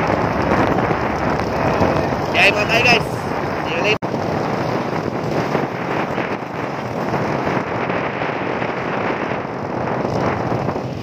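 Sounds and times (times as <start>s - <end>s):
motorcycle engine and road rumble: 0.0s - 11.0s
wind buffeting microphone: 0.0s - 11.0s.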